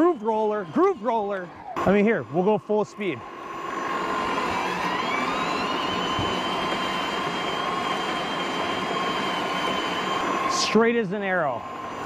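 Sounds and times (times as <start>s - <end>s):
electric mower motor whine: 0.0s - 12.0s
reel cutting grass: 0.0s - 12.0s.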